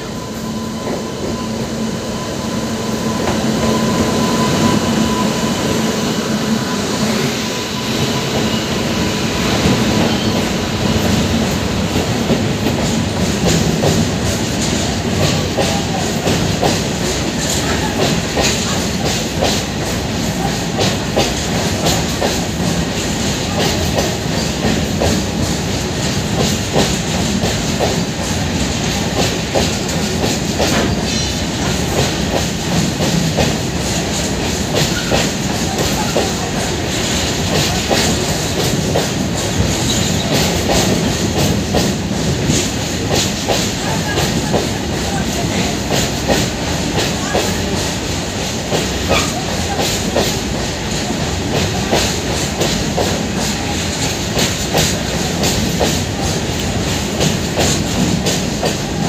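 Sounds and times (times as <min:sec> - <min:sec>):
locomotive hum: 0:00.0 - 0:59.0.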